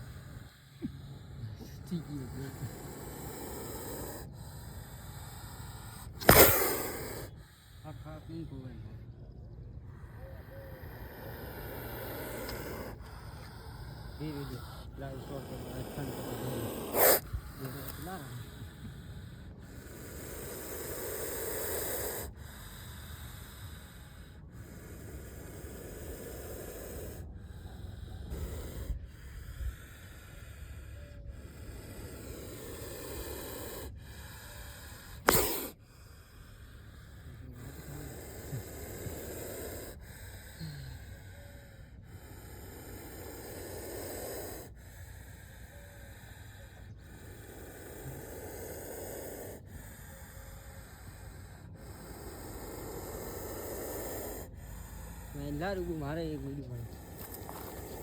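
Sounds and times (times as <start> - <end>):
snake hissing: 0.0 - 58.0.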